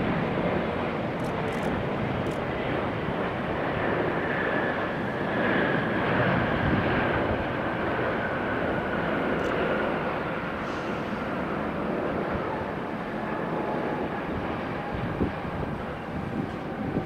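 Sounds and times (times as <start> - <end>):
jet airliner engines: 0.0 - 17.0.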